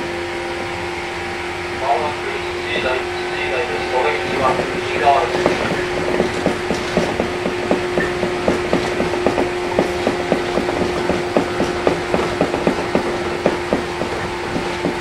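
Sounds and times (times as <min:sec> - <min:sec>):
electric train hum: 0:00.0 - 0:15.0
regular train clicking: 0:01.8 - 0:15.0.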